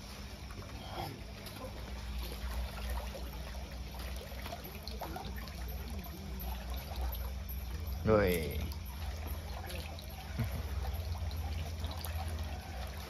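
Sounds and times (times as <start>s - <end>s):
low steady hum: 0.0s - 13.0s
water trickling: 0.0s - 13.0s.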